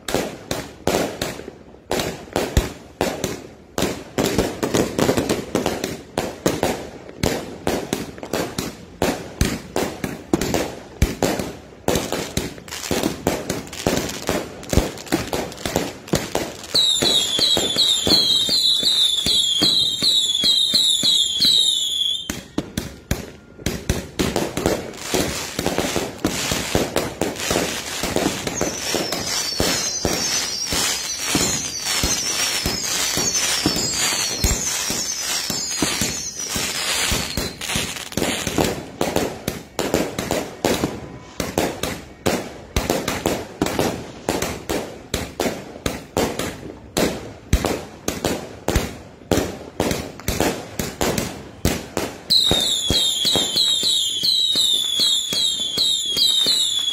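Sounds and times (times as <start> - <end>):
fireworks popping and crackling: 0.0 - 56.9
fireworks whistling: 4.1 - 56.9.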